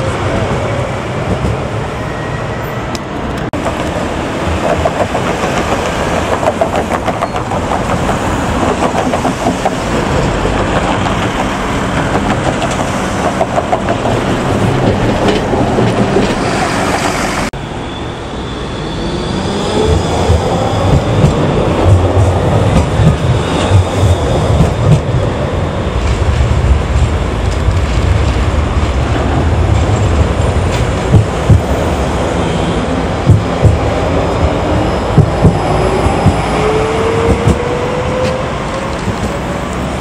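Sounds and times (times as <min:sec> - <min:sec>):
street traffic noise: 0:00.0 - 0:40.0
tram wheels clattering on rails: 0:02.9 - 0:17.5, 0:19.5 - 0:40.0.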